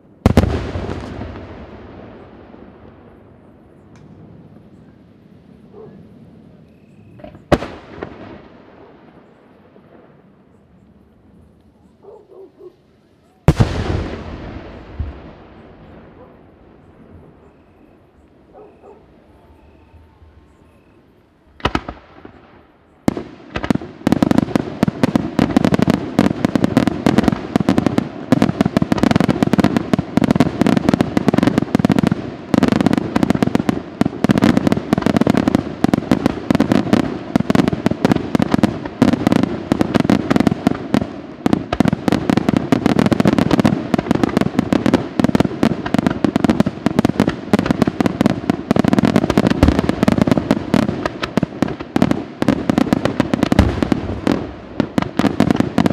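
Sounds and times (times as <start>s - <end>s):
fireworks bangs and crackles: 0.0s - 12.1s, 13.0s - 55.9s.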